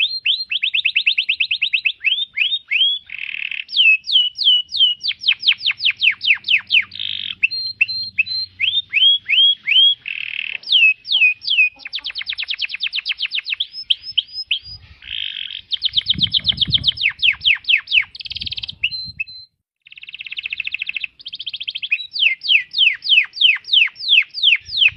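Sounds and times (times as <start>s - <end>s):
canary singing: 0.0s - 24.9s.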